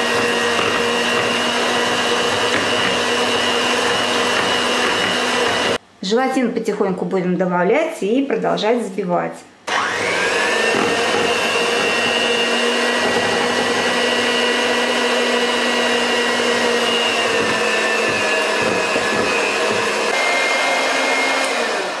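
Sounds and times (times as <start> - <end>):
electric hand mixer whine: 0.0 - 5.8, 9.7 - 22.0.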